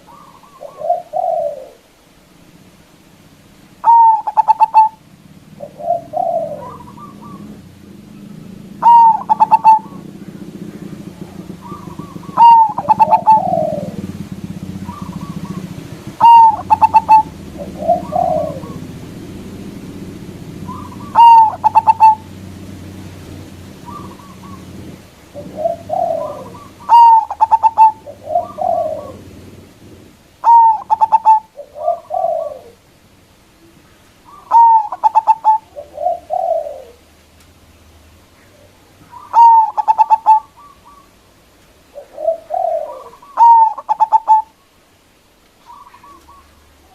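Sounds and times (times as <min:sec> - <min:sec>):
dove cooing: 0:00.0 - 0:02.1, 0:03.8 - 0:33.0, 0:33.6 - 0:37.2, 0:38.2 - 0:41.2, 0:41.8 - 0:44.7, 0:45.6 - 0:46.9.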